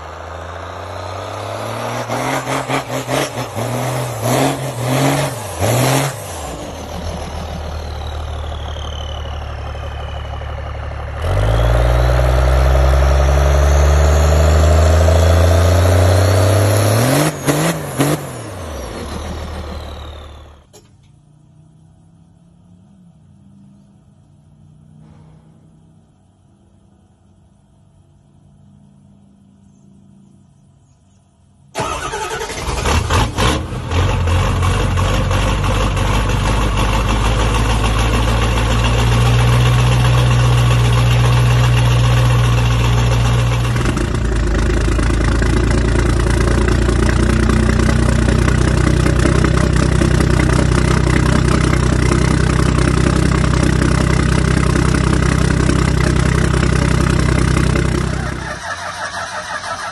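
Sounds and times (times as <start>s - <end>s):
diesel engine cranking and starting: 0.0s - 21.2s, 31.7s - 59.9s
diesel engine running: 0.0s - 26.8s, 31.6s - 59.9s.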